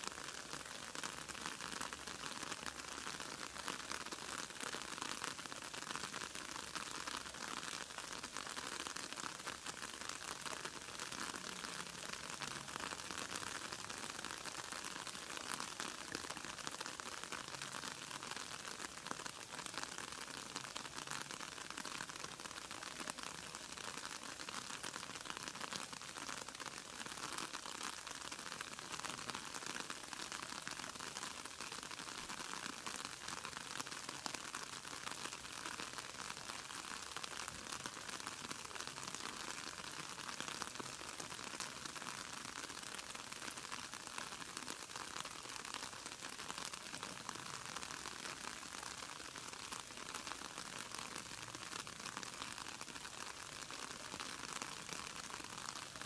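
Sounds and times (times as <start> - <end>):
outdoor hiss with crackling: 0.0 - 56.0.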